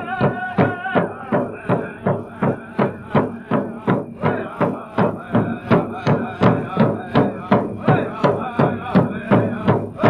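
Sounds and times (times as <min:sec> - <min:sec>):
drum beaten in steady pulse: 0:00.0 - 0:10.0
people singing: 0:00.0 - 0:10.0.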